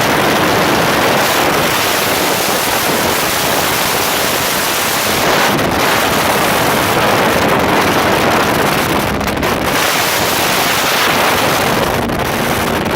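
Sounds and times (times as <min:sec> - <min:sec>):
speedboat water noise: 0:00.0 - 0:12.9
wind on microphone: 0:00.0 - 0:12.9.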